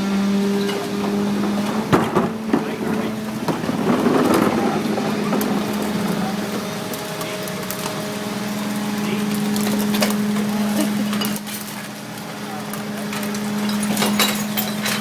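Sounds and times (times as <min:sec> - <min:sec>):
truck mechanical hum: 0:00.0 - 0:15.0
compactor crushing and crunching: 0:00.1 - 0:15.0.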